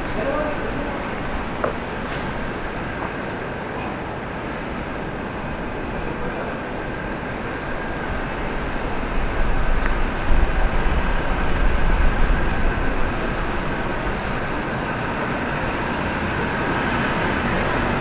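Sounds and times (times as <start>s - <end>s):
wind buffeting microphone: 0.0s - 3.6s, 4.9s - 18.0s
city street noise: 0.0s - 18.0s.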